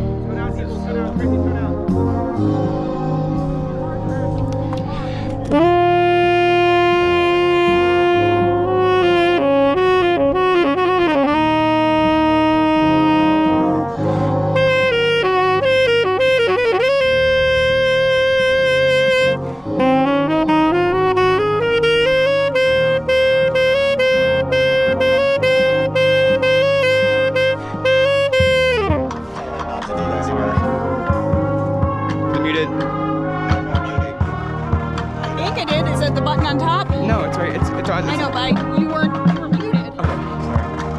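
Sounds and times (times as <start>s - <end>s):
brass band chords: 0.0s - 40.9s
tenor saxophone solo: 0.0s - 40.9s.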